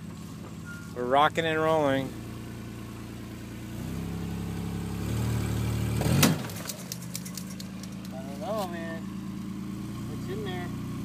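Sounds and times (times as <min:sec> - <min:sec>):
truck engine revving: 0:00.7 - 0:11.0.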